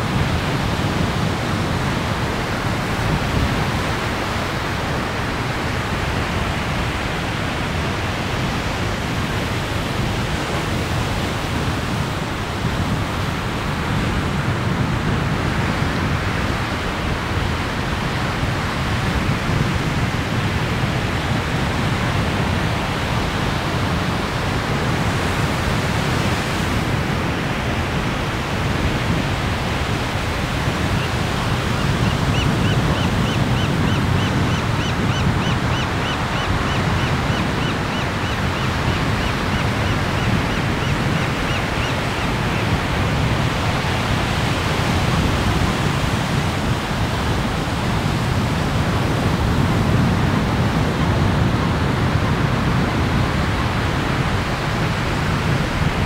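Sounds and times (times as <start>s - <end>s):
ocean surf rushing: 0.0s - 56.0s.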